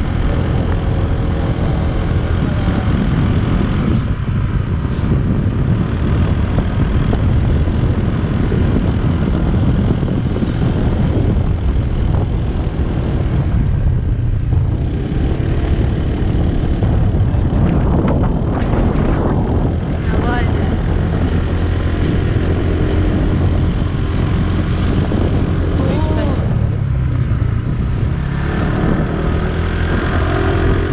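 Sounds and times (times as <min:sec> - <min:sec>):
scooter engine running: 0:00.0 - 0:30.9
wind buffeting microphone: 0:00.0 - 0:30.9.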